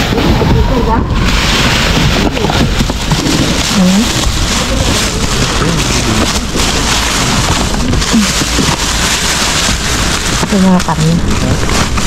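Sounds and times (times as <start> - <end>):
plastic garbage bags rustling: 0.0 - 12.0.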